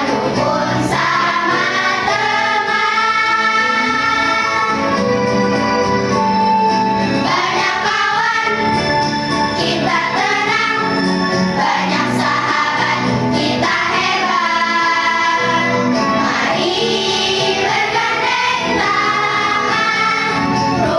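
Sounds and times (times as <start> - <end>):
children's choir singing: 0.0 - 5.1, 7.2 - 20.9
musical accompaniment: 0.0 - 20.9.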